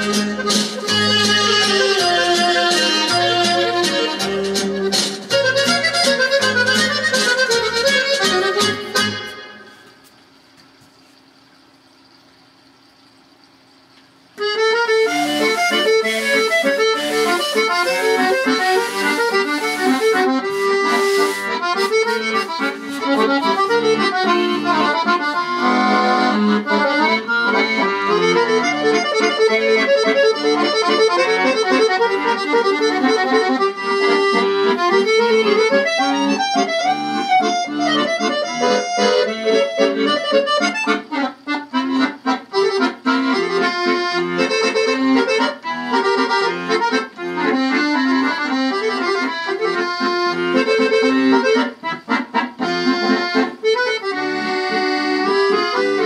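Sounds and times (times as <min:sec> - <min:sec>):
instrumental background music: 0:00.0 - 0:09.9, 0:14.4 - 0:56.0.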